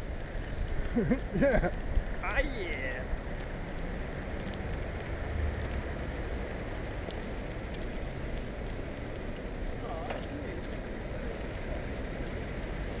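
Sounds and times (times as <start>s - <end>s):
bicycle tyres rolling on gravel: 0.0s - 13.0s.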